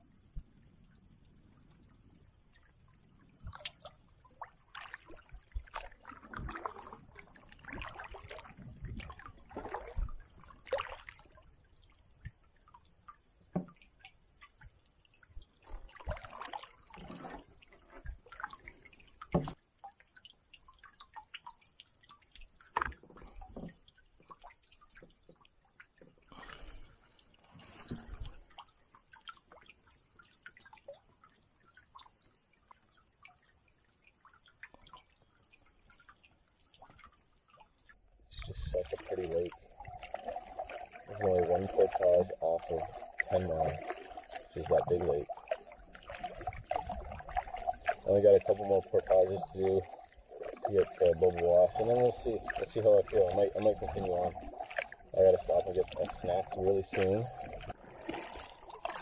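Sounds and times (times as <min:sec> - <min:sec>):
water dripping and splashing: 0:01.8 - 0:59.0
canoe paddle strokes in water: 0:03.4 - 0:32.9, 0:33.5 - 0:59.0.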